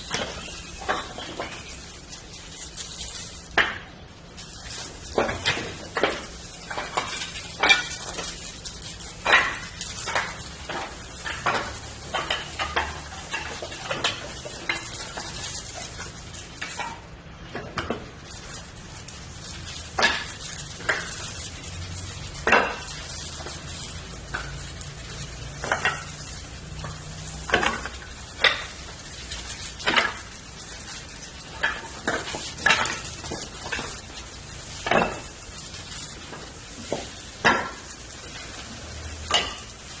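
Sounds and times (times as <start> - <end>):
firewood crackling and popping: 0.0 - 40.0
steady sizzle: 0.0 - 40.0.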